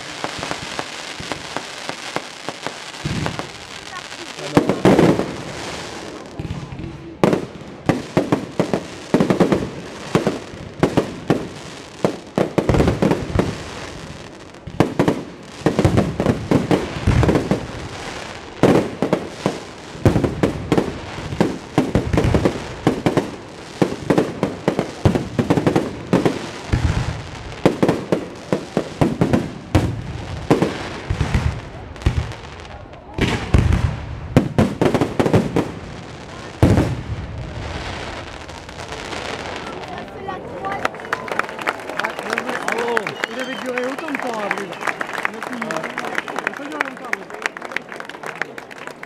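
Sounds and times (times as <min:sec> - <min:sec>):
fireworks bursting: 0:00.0 - 0:47.2.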